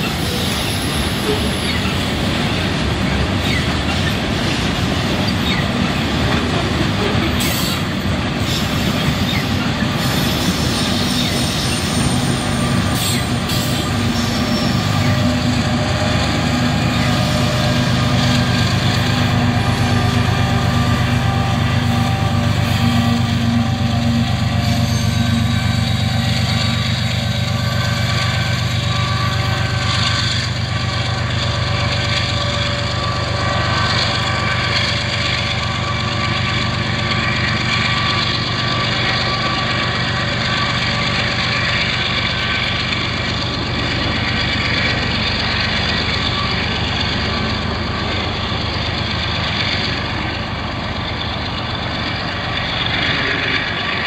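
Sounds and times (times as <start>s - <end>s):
diesel locomotive engine hum: 0.0s - 54.0s
passing train rumble: 0.0s - 54.0s.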